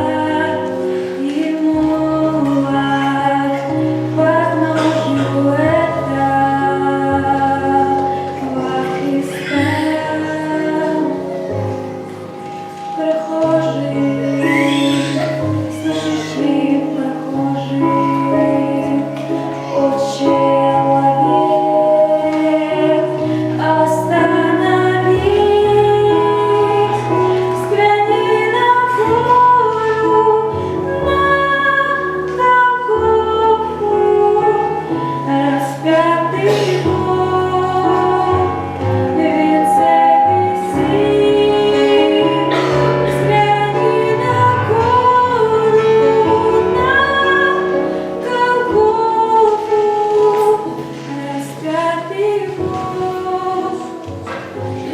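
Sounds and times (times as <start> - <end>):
instrumental accompaniment with bass: 0.0 - 54.9
woman singing: 0.0 - 54.9.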